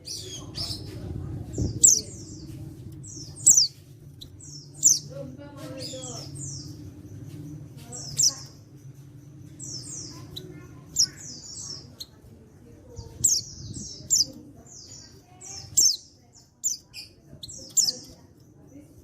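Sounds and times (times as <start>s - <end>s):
bird high chirps: 0.0s - 19.0s.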